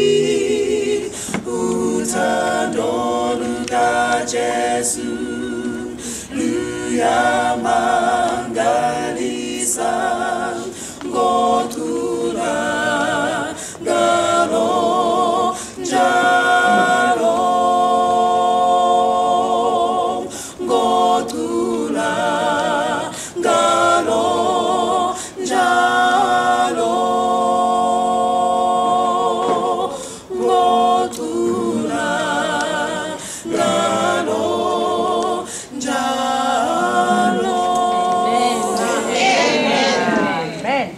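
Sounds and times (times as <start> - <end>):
vocal group singing a hymn: 0.0 - 40.9.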